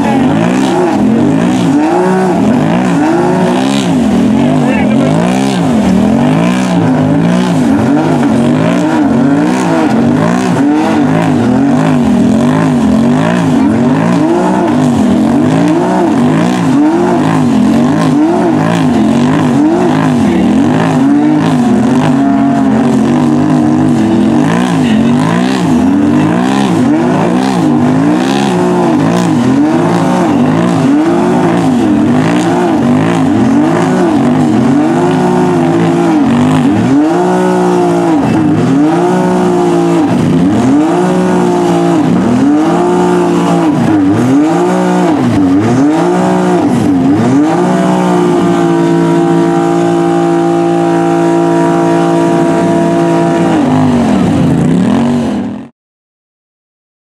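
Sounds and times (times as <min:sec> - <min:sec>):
engines revving hard: 0:00.0 - 0:55.7.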